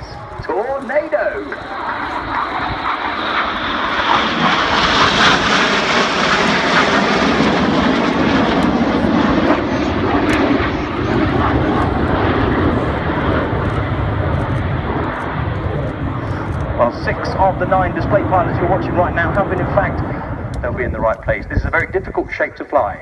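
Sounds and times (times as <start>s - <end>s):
jets flying past roaring: 0.0s - 23.0s.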